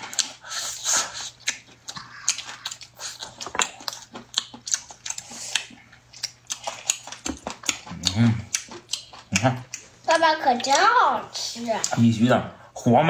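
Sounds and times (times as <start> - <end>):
people chewing wet smacks: 0.0 - 12.1.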